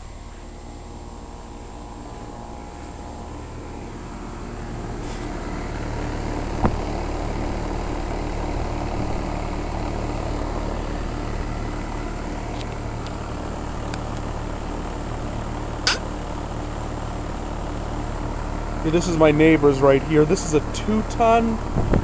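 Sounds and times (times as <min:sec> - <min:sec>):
compressor hum: 0:00.0 - 0:22.0
condenser fans rushing: 0:00.0 - 0:22.0.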